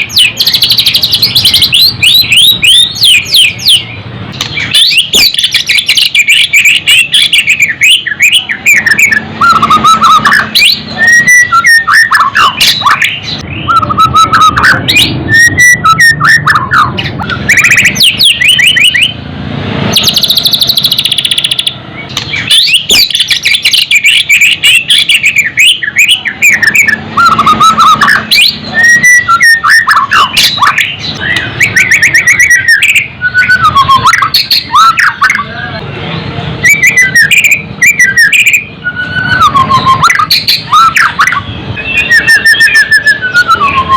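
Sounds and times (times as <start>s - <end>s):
bird singing varied song: 0.0s - 43.9s.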